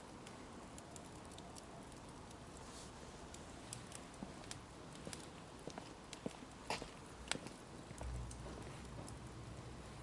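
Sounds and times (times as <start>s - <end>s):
bonfire crackling and popping: 0.0s - 10.0s
faint steady hiss: 0.0s - 10.0s.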